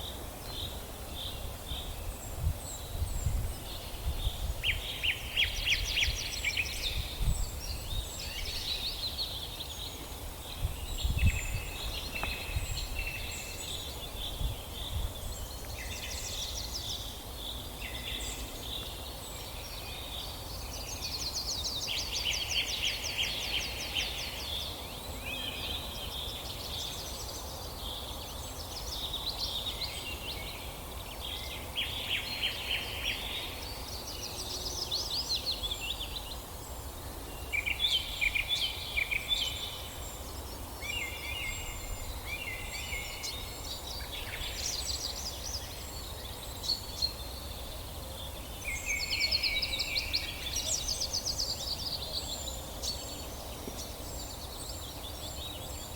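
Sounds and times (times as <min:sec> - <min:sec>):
low background noise: 0:00.0 - 0:55.9.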